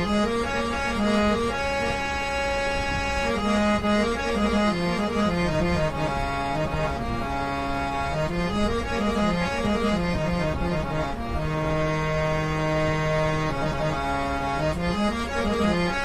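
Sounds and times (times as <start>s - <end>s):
harmonium melody: 0.0s - 16.0s.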